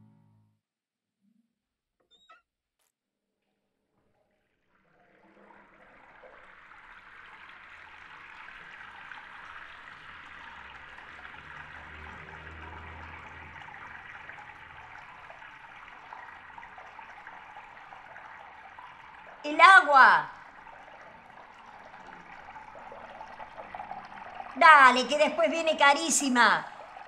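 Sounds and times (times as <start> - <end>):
tap water running into sink: 4.7 - 19.8, 20.4 - 27.0.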